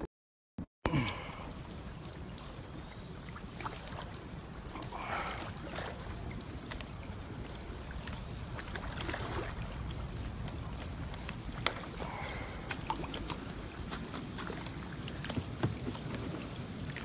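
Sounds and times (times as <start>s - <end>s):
water drips: 0.9s - 17.0s
paddle splashes in water: 1.8s - 17.0s.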